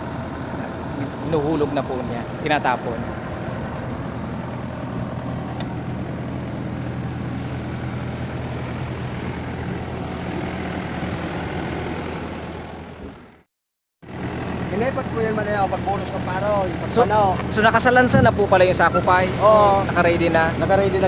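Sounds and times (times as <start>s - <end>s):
threshing machine engine drone: 0.0s - 13.4s, 14.0s - 21.0s.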